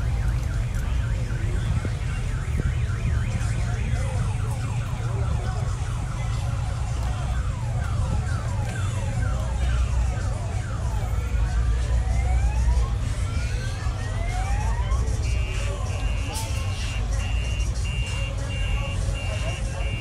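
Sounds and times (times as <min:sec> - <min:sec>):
car alarm warbling and whooping: 0:00.0 - 0:20.0.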